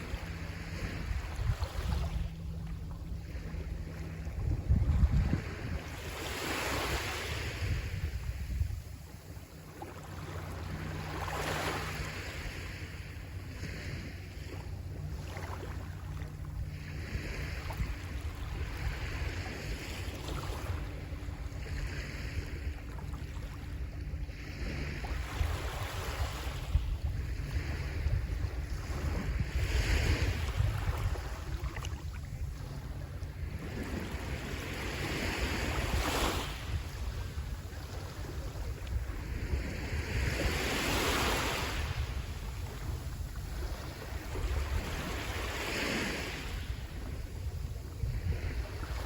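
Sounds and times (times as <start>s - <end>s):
sea waves washing onto shore: 0.0s - 49.0s
wind rumbling on microphone: 0.0s - 49.0s.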